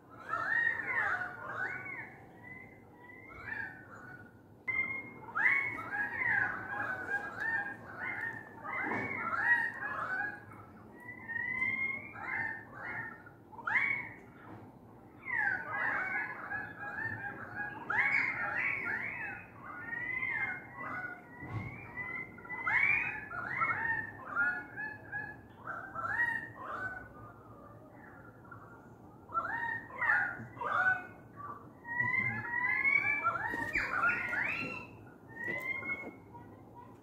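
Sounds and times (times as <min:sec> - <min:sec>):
birds calling loudly: 0:00.0 - 0:14.4, 0:15.1 - 0:37.0.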